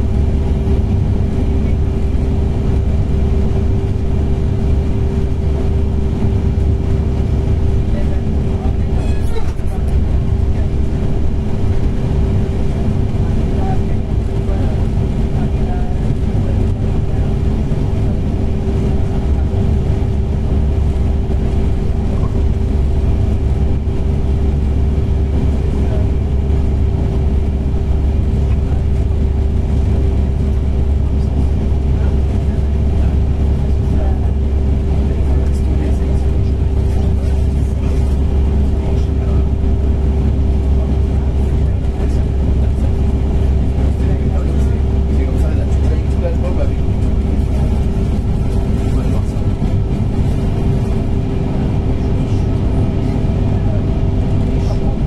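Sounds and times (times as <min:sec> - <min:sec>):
mid-pitched hum: 0:00.0 - 0:55.0
train rumble inside carriage: 0:00.0 - 0:55.0.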